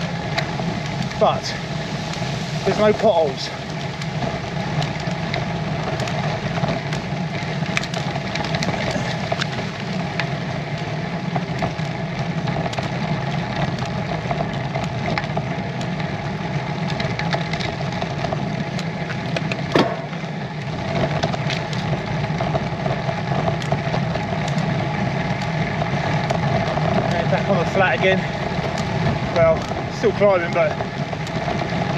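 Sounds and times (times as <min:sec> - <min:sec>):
bike tyre roar: 0:00.0 - 0:31.9
tyres ticking on grit: 0:00.0 - 0:31.9.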